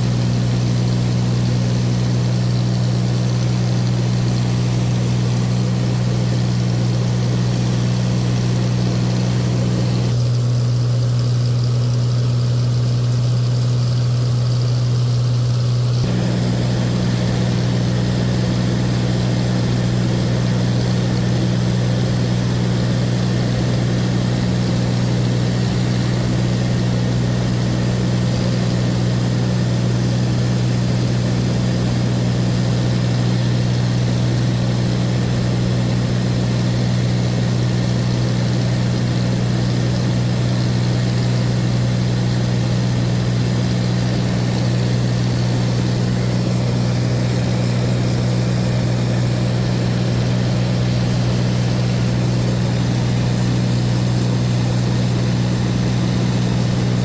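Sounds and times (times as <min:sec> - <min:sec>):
light aircraft engine droning: 0:00.0 - 0:10.3, 0:16.0 - 0:57.0.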